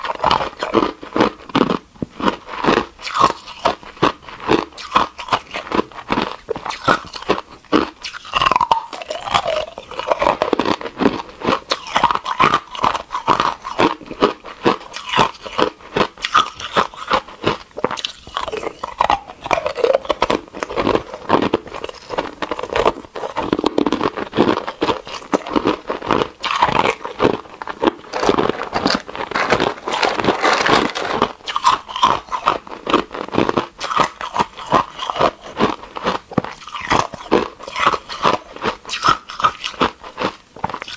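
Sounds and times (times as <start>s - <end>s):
ice cubes crunching: 0.0s - 40.9s.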